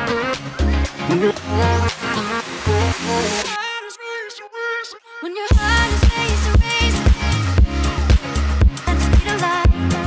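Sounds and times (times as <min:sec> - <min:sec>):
dance-pop music with heavy bass: 0:00.0 - 0:10.0.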